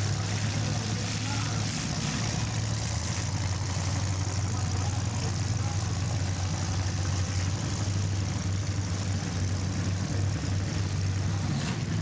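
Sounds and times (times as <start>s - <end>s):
car engines droning: 0.0s - 12.0s.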